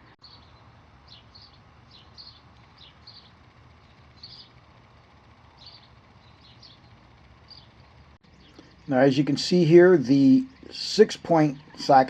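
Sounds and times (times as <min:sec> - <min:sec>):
faint bird chirping: 0:00.0 - 0:12.0.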